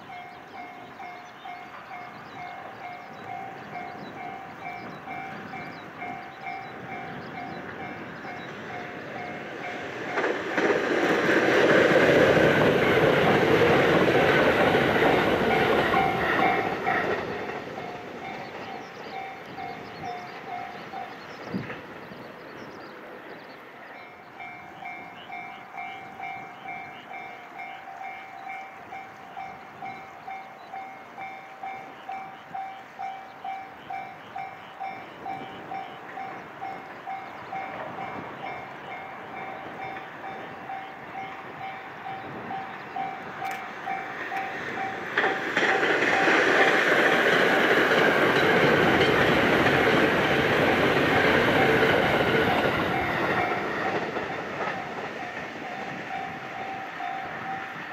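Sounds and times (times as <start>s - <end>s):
train passing at speed: 0.0s - 57.9s.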